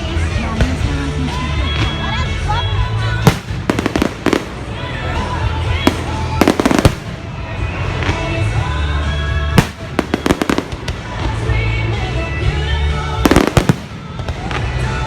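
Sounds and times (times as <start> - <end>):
music over loudspeakers: 0.0 - 15.0
fireworks exploding: 2.8 - 15.0.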